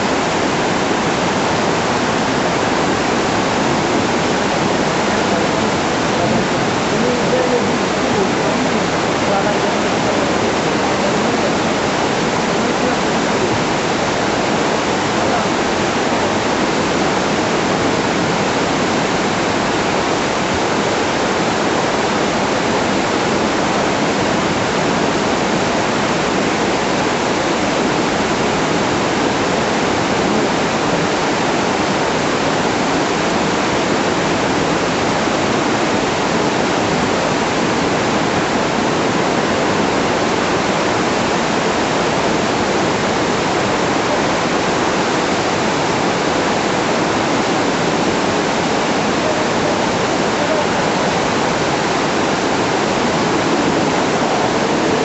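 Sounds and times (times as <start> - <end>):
floodwater rushing down street: 0.0 - 55.0.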